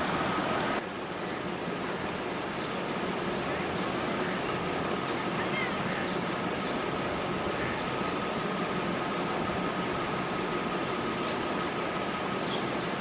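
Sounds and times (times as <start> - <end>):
outdoor rushing background noise: 0.0 - 13.0.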